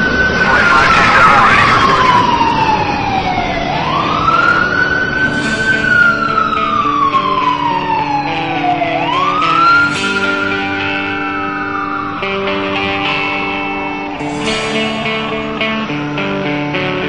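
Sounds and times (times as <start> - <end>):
wailing siren: 0.0 - 17.0.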